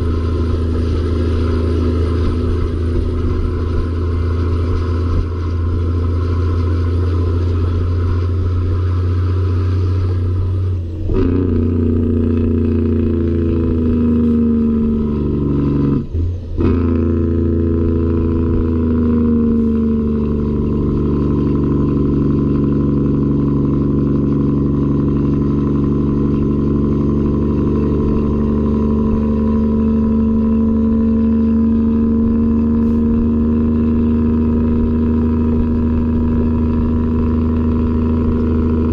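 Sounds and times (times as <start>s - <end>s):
diesel truck engine pulling: 0.0s - 38.9s.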